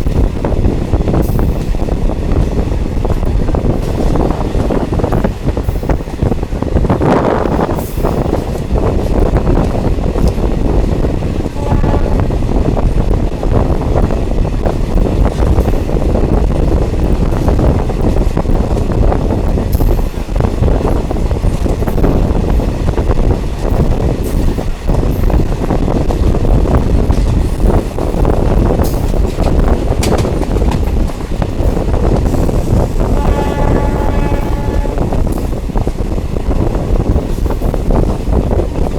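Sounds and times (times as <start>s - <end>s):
rail clicks: 0.0s - 38.9s
train wheels and engine rumbling: 0.0s - 38.9s.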